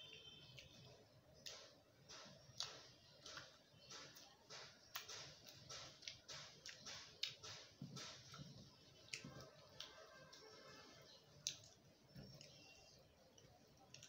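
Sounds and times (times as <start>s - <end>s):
chewing and mouth noises: 0.6s - 10.4s, 11.3s - 14.0s.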